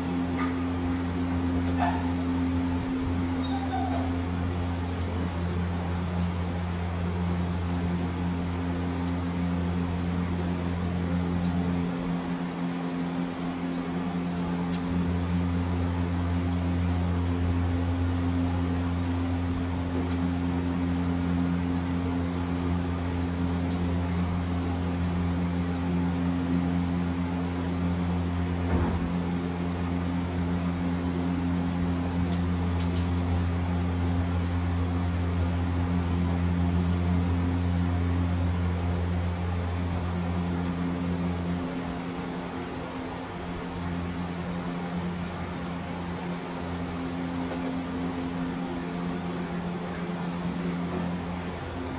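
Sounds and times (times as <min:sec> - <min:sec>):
low machine hum: 0:00.0 - 0:51.9.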